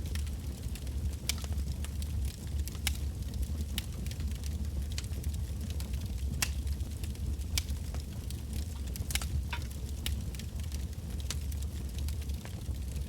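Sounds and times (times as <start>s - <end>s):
fire flame rumble: 0.0s - 13.0s
firewood crackling and popping: 0.0s - 13.0s.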